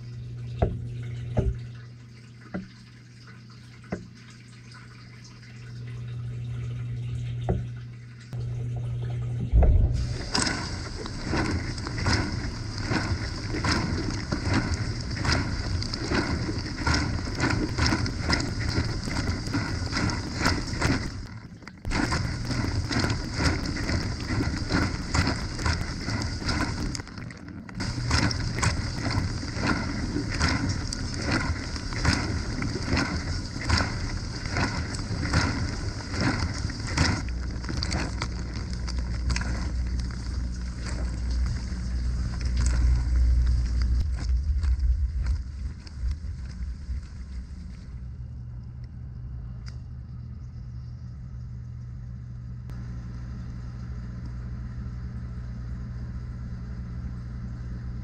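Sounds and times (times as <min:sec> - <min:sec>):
dishwasher low hum: 0:00.0 - 0:58.0.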